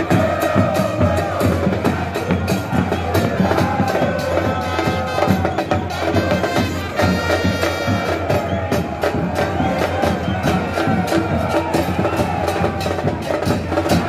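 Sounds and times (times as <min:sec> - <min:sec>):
bass drums beating: 0:00.0 - 0:14.0
crowd chanting: 0:00.0 - 0:14.0
reedy wind instruments: 0:00.0 - 0:14.0.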